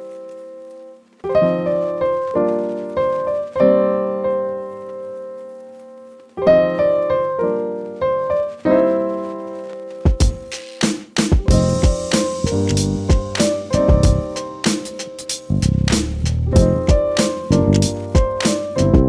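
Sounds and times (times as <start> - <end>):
piano playing slow chords: 0.0 - 10.5, 11.4 - 19.0.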